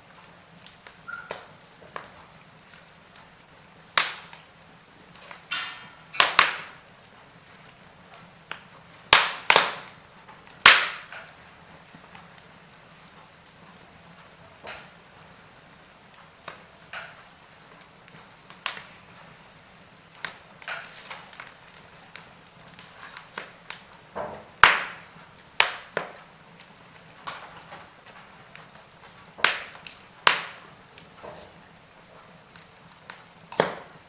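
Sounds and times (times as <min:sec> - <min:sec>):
low steady hiss: 0:00.0 - 0:34.0
wood fire crackling and popping: 0:00.0 - 0:34.0.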